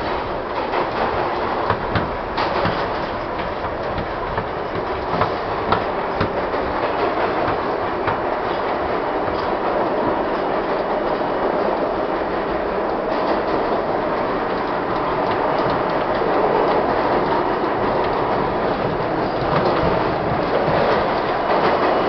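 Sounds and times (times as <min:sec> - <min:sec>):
subway wheels on rails: 0:00.0 - 0:22.0.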